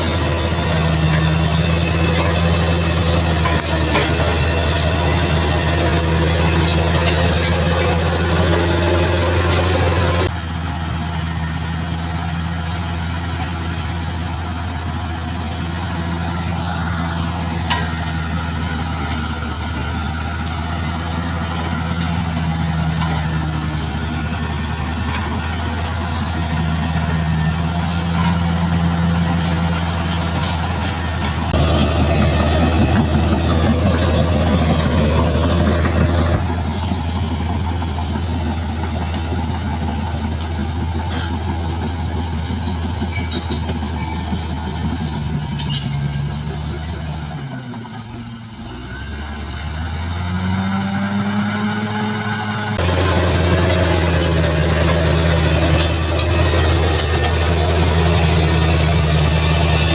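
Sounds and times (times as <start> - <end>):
bulldozer diesel engine running: 0.0 - 59.9
metallic squeal from tracks: 0.0 - 59.9.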